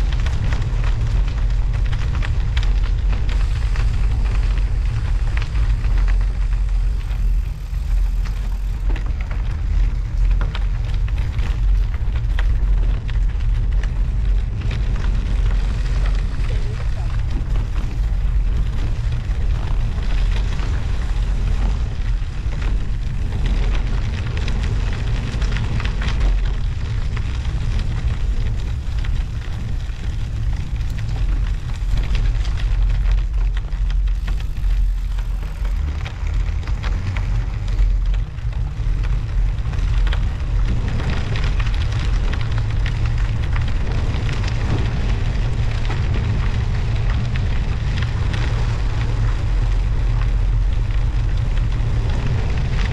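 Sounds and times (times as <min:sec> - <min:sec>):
tyres crackling over snow and ice: 0:00.0 - 0:52.9
wind noise on microphone: 0:00.0 - 0:52.9.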